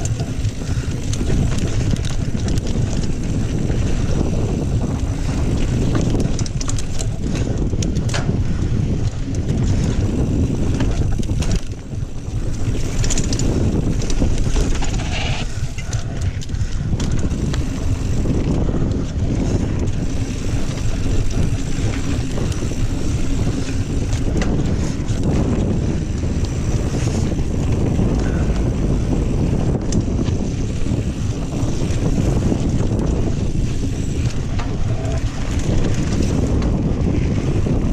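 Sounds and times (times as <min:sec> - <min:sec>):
bike clicks and rattles: 0:00.0 - 0:37.9
tyre and trail rumble: 0:00.0 - 0:37.9
wind buffeting microphone: 0:00.0 - 0:37.9.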